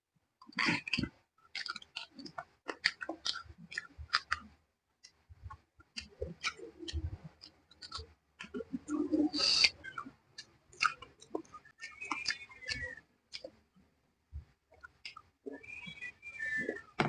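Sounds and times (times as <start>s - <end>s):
person chewing and lip smacking: 0.4s - 17.0s.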